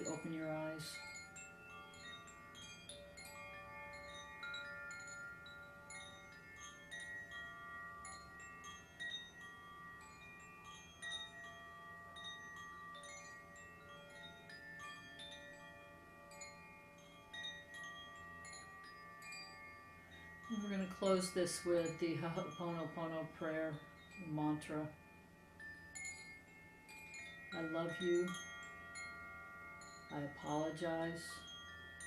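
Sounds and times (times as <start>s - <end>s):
wind chimes ringing softly: 0.0s - 32.0s.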